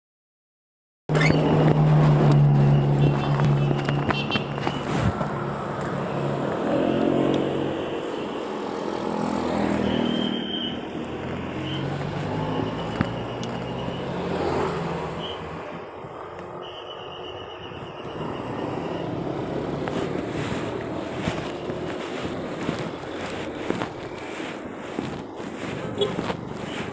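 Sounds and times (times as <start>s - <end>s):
car engines passing: 1.1s - 26.9s.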